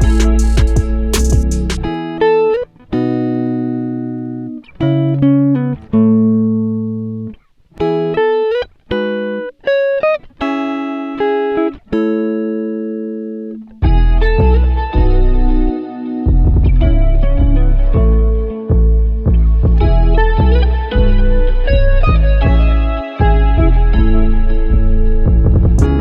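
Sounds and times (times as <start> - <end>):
guitar plucking notes and chords: 0.0 - 26.0.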